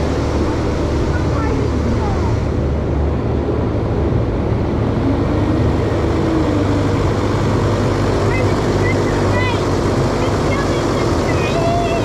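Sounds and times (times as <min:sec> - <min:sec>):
fairground rumble: 0:00.0 - 0:12.0.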